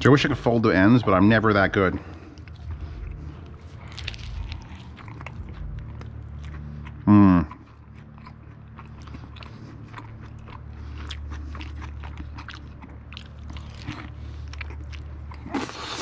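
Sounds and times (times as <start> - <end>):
chewing with wet mouth clicks: 2.1 - 16.0.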